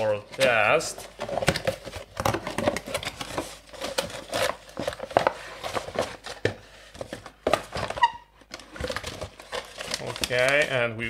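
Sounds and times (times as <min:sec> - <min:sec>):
cardboard box being unpacked: 0:00.0 - 0:10.7.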